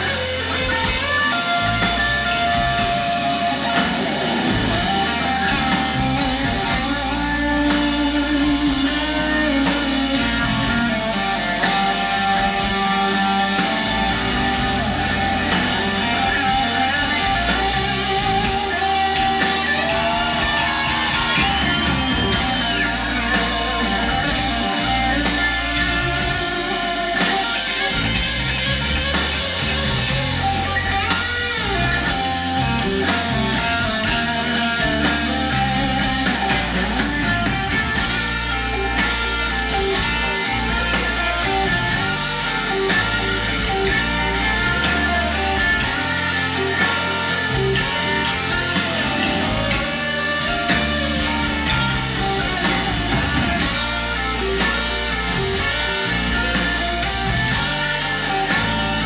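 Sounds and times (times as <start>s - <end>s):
electric guitars: 0.0s - 59.0s
live rock band playing: 0.0s - 59.0s.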